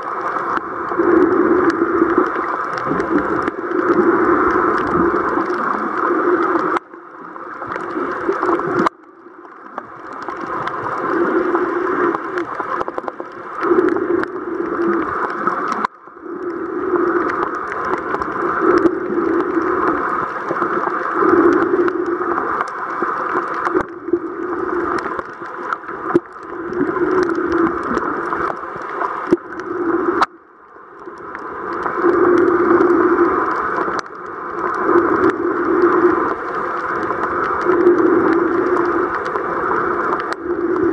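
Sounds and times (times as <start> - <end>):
muffled underwater rushing: 0.0 - 40.9.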